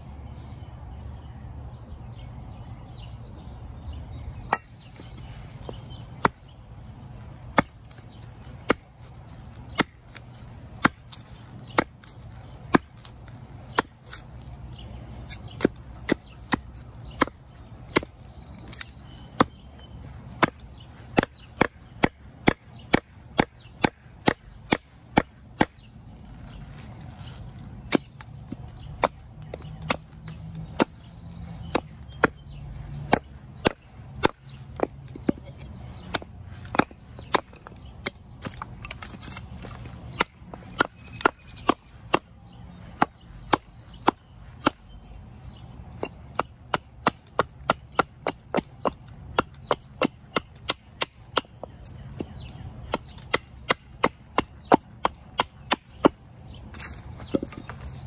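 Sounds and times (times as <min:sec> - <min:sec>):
hatchet chopping wood: 0:04.4 - 0:04.8, 0:05.6 - 0:06.6, 0:07.5 - 0:14.4, 0:15.3 - 0:19.7, 0:20.3 - 0:26.0, 0:27.8 - 0:45.2, 0:45.9 - 0:58.0.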